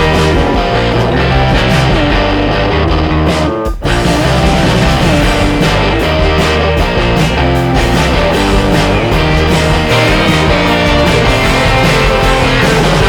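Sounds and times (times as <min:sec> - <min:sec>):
loud rock music with guitar: 0:00.0 - 0:13.0.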